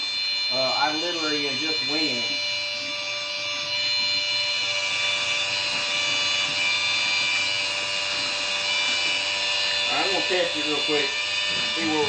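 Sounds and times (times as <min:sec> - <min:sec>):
electric pump whining: 0:00.0 - 0:12.0.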